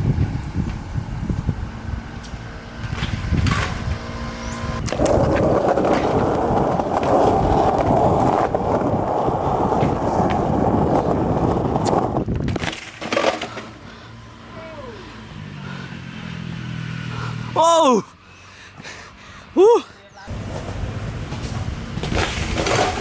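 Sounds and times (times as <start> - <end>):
wheels rumbling on rough pavement: 0.0 - 19.7, 20.3 - 23.0.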